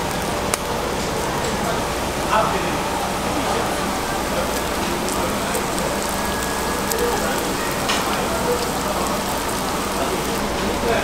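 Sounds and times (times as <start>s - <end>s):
meat sizzling on a grill pan: 0.0s - 11.0s.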